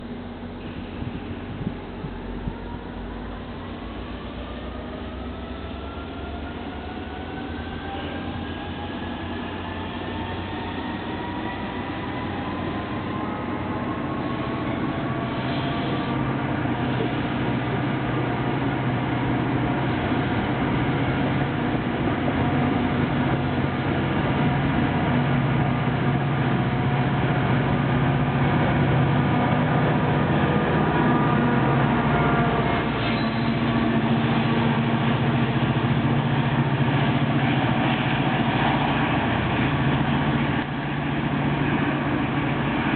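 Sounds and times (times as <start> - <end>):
diesel locomotive pulling away: 0.0 - 42.9
rising whine: 0.0 - 42.9.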